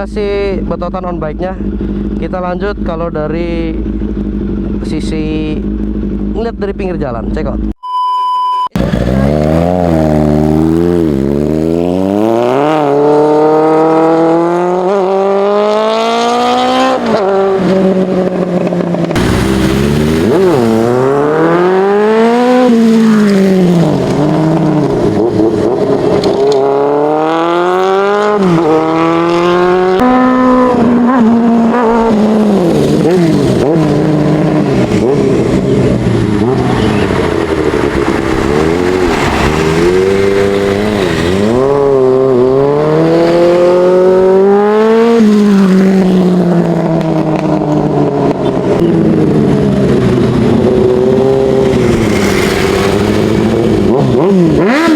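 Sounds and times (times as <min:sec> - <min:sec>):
motorcycle engine revving hard: 0:08.8 - 0:54.9.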